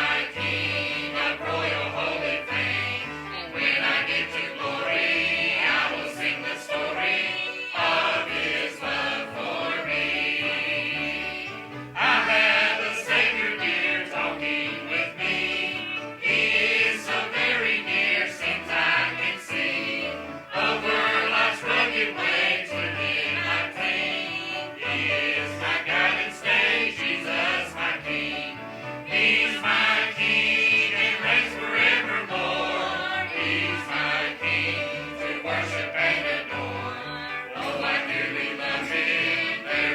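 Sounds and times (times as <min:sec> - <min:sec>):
choir singing a hymn: 0:00.0 - 0:39.9
instrumental accompaniment with bass: 0:00.0 - 0:39.9.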